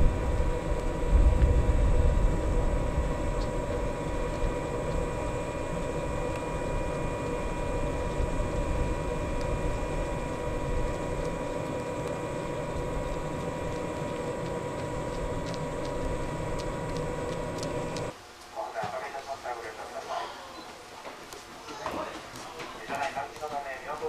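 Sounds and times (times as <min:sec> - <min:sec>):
train wheels rumbling on rail: 0:00.0 - 0:18.2, 0:21.0 - 0:24.0.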